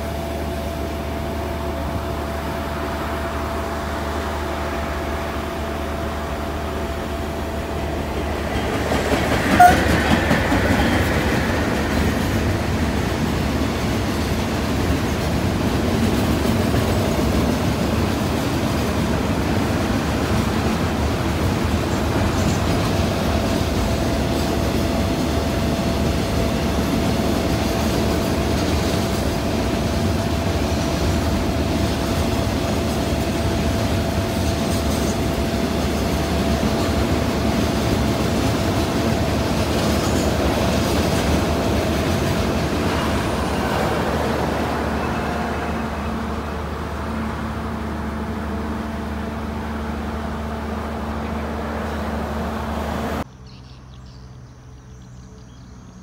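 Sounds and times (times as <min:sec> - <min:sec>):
train wheels rumbling on track: 0:00.0 - 0:53.3.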